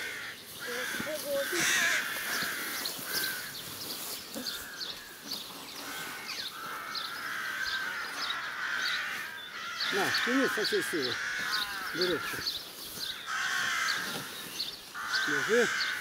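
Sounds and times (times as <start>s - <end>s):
crows cawing: 0.0s - 16.0s.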